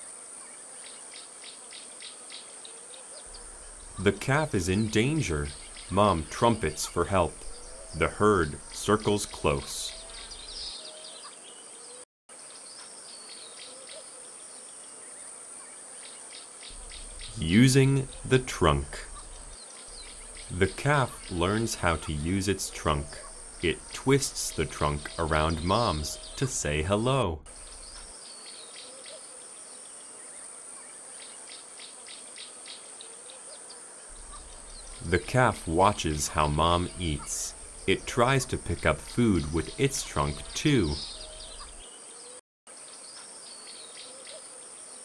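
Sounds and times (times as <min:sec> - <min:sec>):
insects chirping and trilling: 0:00.0 - 0:10.9, 0:11.7 - 0:45.0.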